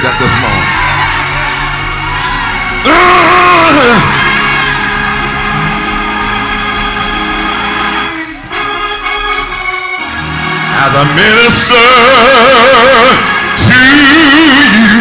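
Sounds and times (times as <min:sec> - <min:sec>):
organ sustained chords: 0:00.0 - 0:15.0.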